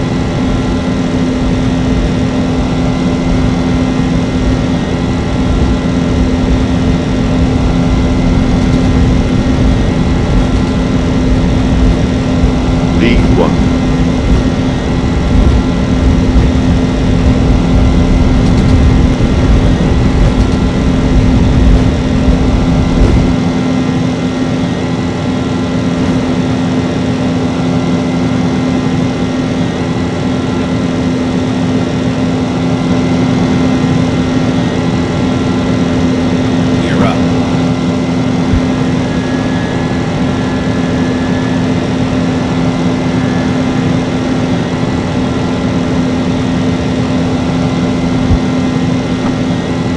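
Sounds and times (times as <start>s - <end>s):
jet engines droning: 0.0s - 49.9s.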